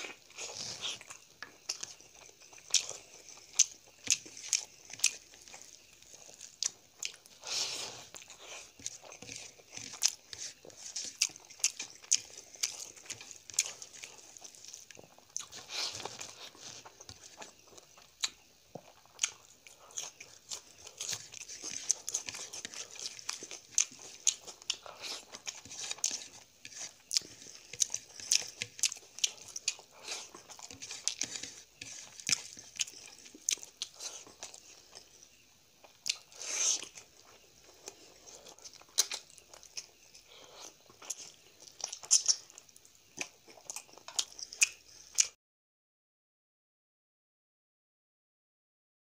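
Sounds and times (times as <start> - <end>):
chewing with mouth smacks: 0.0 - 45.4.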